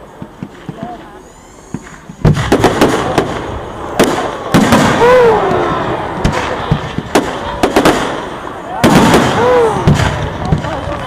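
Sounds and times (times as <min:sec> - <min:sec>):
fireworks crackling: 0:00.0 - 0:11.0
firework bang: 0:01.7 - 0:11.0.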